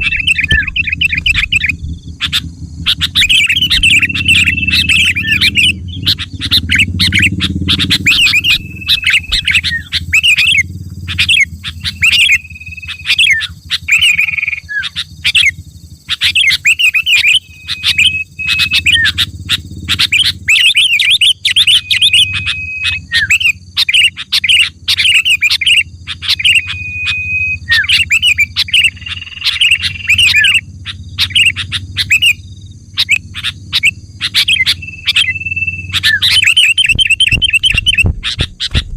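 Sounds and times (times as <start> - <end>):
low rumble: 0.0 - 20.6, 25.9 - 38.9
bulbul singing: 0.0 - 38.9.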